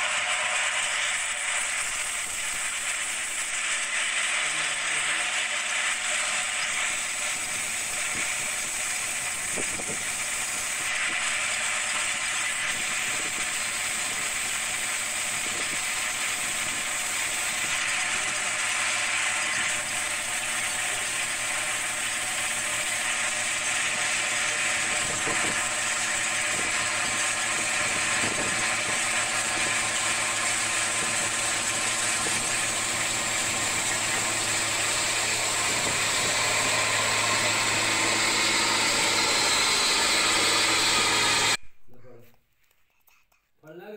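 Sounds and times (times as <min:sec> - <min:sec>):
combine harvester engine drone: 0:00.0 - 0:41.6
rattling mechanical clatter: 0:00.7 - 0:41.6.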